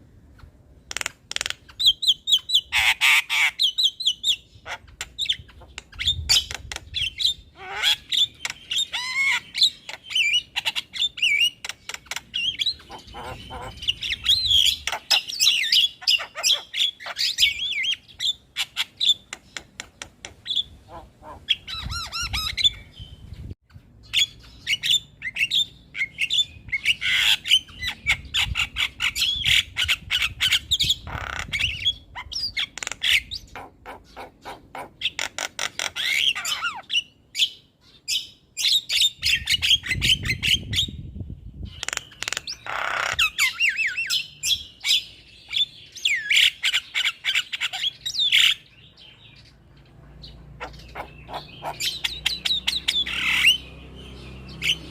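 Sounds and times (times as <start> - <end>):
bird chattering and whistling: 0.9 - 23.3, 24.0 - 49.5, 50.3 - 54.9.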